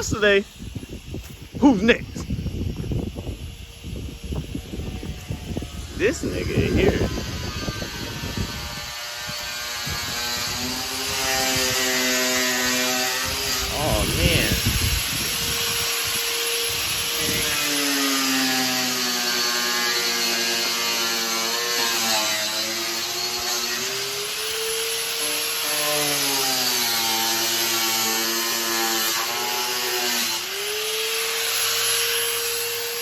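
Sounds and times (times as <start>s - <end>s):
power tool cutting: 0.0s - 33.0s.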